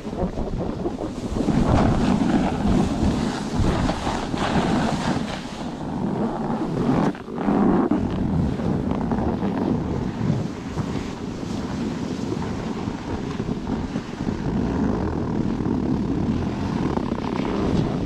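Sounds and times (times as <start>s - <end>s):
snowboard scraping over snow: 0.0s - 18.0s
wind buffeting microphone: 0.0s - 18.0s.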